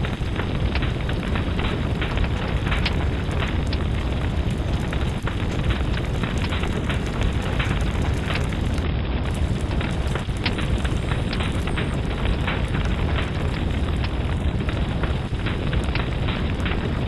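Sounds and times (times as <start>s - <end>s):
fireplace fire crackling: 0.0s - 17.0s
low rumble: 0.0s - 17.0s.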